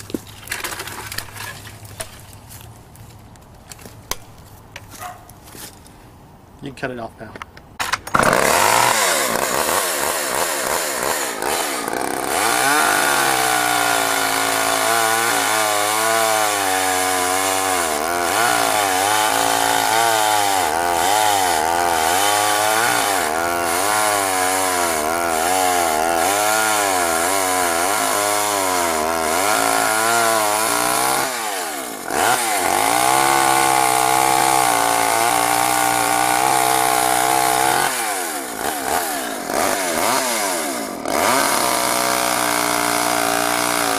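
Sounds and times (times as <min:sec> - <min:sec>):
chainsaw running at high revs: 0:08.1 - 0:43.9.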